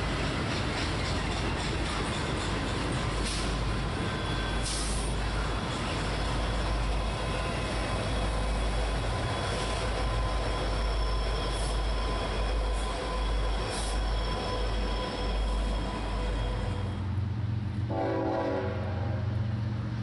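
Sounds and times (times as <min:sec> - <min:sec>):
wheels squealing on rails: 0:00.0 - 0:17.3
diesel locomotive engine rumble: 0:00.0 - 0:20.0.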